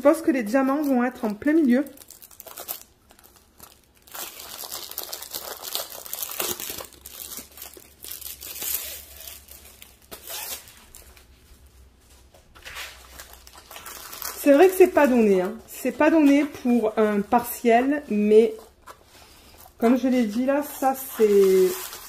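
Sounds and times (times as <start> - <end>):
plastic sleeve crinkling: 0.5 - 22.0.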